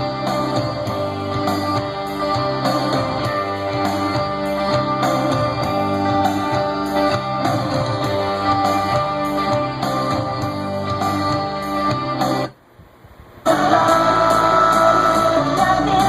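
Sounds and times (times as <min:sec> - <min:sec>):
guitar music on car radio: 0:00.0 - 0:12.6, 0:13.5 - 0:16.0.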